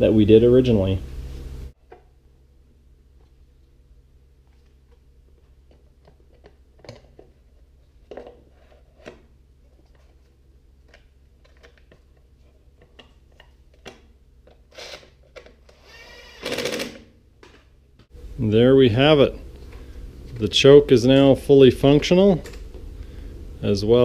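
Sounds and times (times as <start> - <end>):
steady low hum: 0.0 - 15.0, 16.9 - 24.0.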